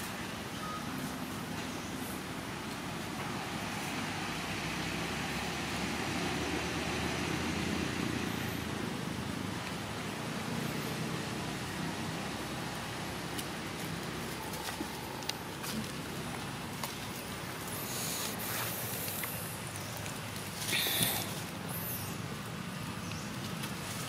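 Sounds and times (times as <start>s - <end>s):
outdoor background rumble and hiss: 0.0s - 24.0s.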